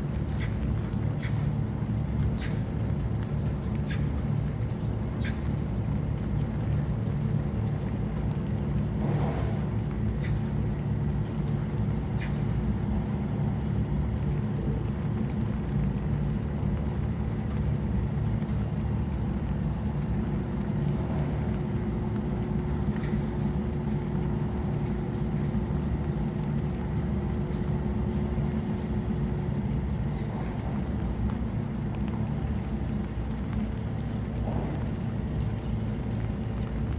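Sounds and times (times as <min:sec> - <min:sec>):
rain falling: 0:00.0 - 0:36.9
ventilation fan humming: 0:00.0 - 0:36.9.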